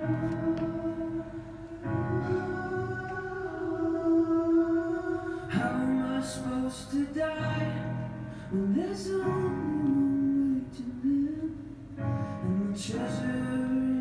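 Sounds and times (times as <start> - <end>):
person singing slow song: 0.0 - 14.0
quiet instrumental accompaniment: 0.0 - 14.0.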